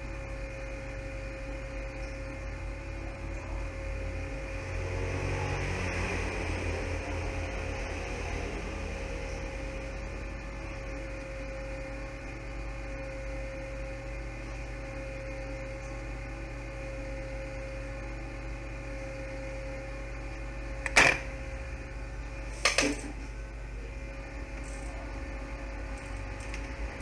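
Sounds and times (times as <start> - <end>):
electrical hum with thin tone: 0.0 - 27.0.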